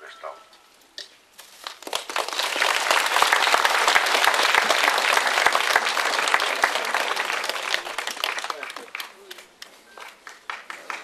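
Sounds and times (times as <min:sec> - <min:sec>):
crowd applauding: 0:01.6 - 0:11.0.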